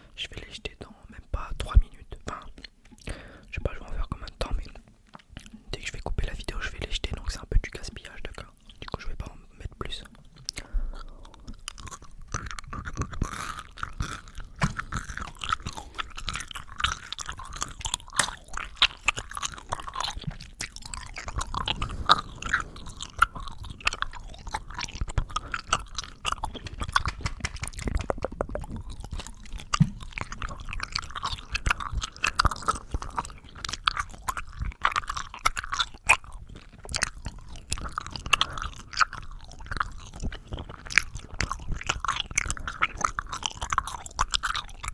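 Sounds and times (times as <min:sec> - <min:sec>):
lip and tongue clicks and smacks: 0:01.5 - 0:44.9.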